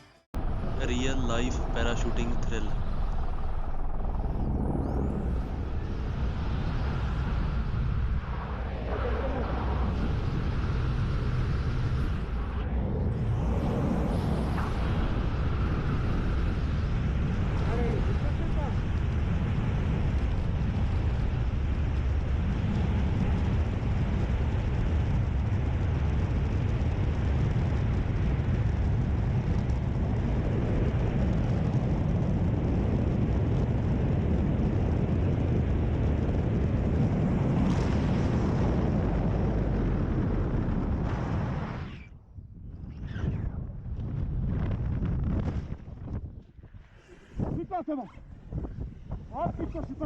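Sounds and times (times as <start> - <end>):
wind buffeting microphone: 0.4 - 50.0.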